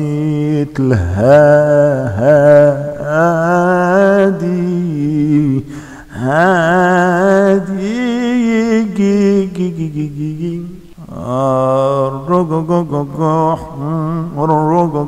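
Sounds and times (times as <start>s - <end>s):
man chanting unaccompanied: 0.0s - 15.0s.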